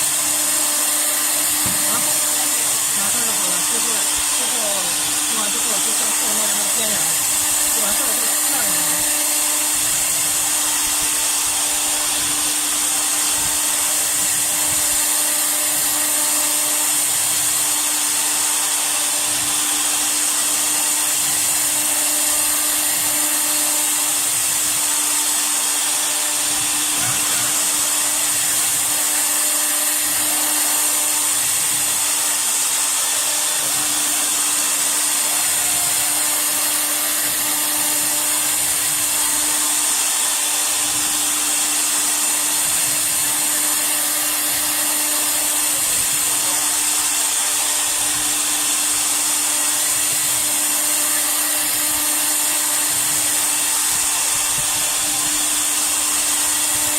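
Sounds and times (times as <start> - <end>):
router spindle whining: 0.0 - 56.9.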